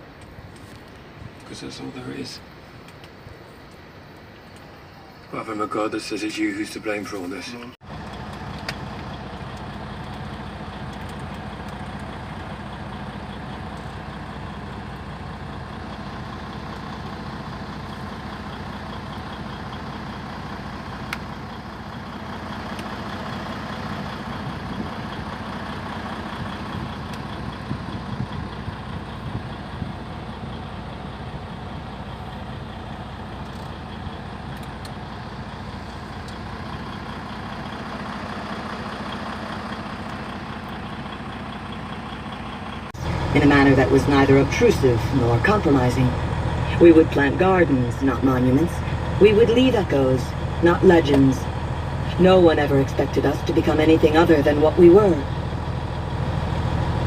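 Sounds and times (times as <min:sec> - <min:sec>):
road noise: 0:00.0 - 0:57.0
vehicle engine hum: 0:00.0 - 0:57.0.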